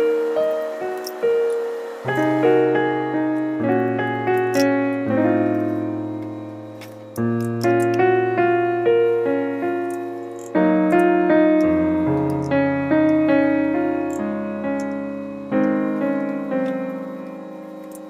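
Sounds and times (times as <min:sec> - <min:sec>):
slow solo piano melody: 0:00.0 - 0:18.0.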